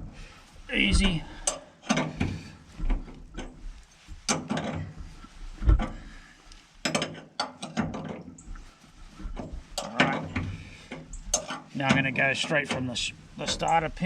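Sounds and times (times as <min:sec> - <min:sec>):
metallic clicks and knocks: 0:00.9 - 0:14.0.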